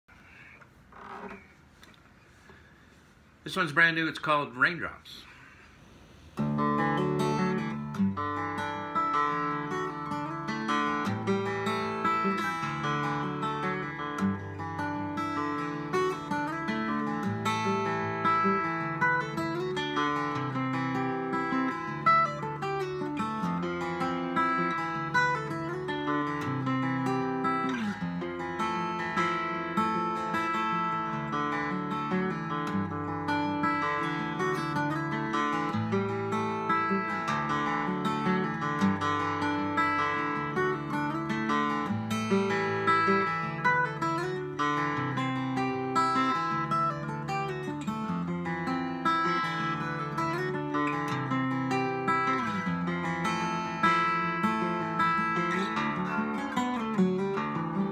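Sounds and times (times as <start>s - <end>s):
fingerstyle acoustic guitar: 6.1s - 57.9s.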